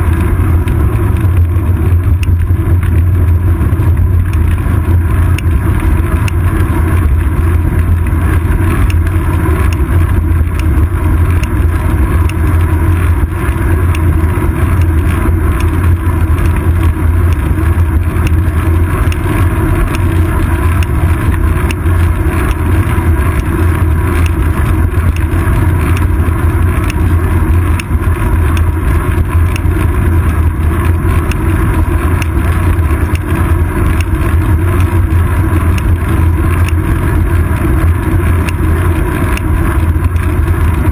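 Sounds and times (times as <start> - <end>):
faint rattling ticks: 0.0 - 40.9
wind and road rumble: 0.0 - 40.9.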